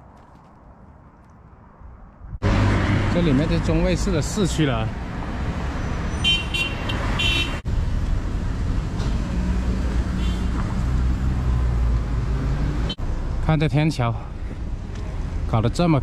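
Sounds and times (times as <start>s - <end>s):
engine and road hum: 0.0s - 16.0s.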